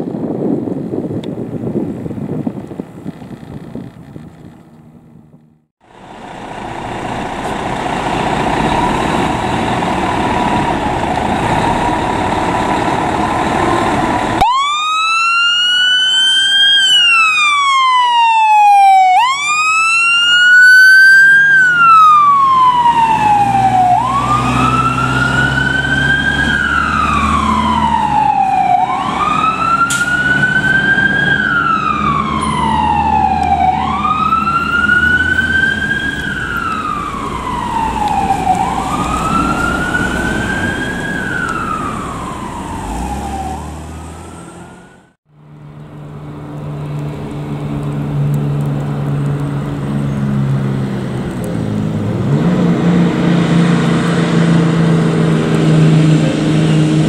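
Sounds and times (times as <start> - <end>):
truck engine rumble: 0.0 - 57.0
fire engine siren wailing: 5.8 - 45.2, 46.0 - 57.0.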